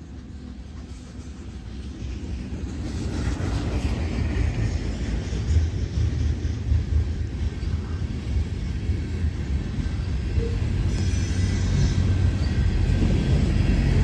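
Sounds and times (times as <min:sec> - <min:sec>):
freight train cars rolling: 0:00.0 - 0:14.0.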